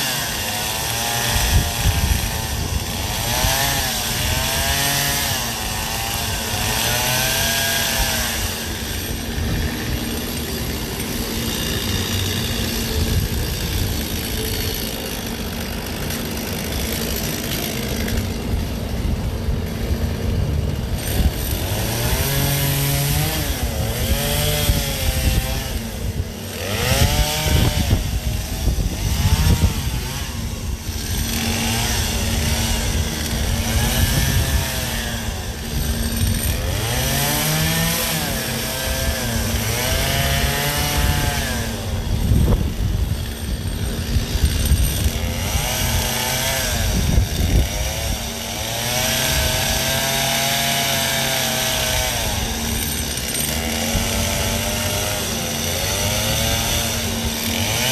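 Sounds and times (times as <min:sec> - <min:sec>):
chainsaw engine revving: 0:00.0 - 0:57.9.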